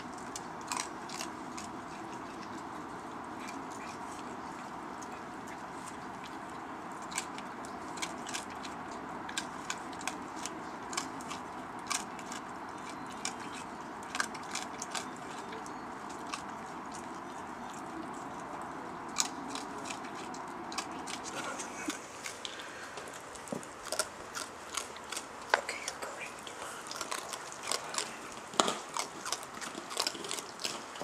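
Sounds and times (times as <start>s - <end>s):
raccoon crunching dry food: 0.0s - 31.0s.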